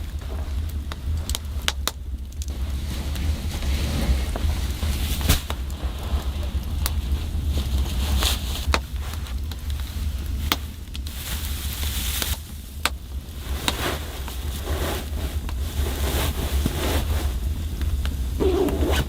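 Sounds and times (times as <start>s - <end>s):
rustling: 0.0s - 19.0s
steady low rumble: 0.0s - 19.0s.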